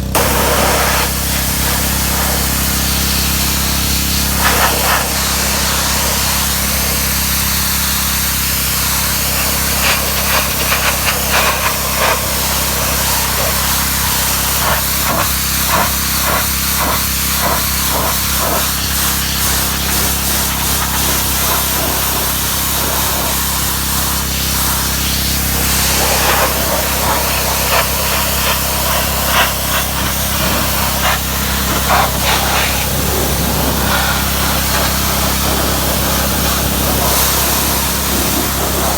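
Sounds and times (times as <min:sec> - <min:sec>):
pressure washer motor hum: 0:00.0 - 0:38.9
pressure washer water jet hissing: 0:00.0 - 0:38.9.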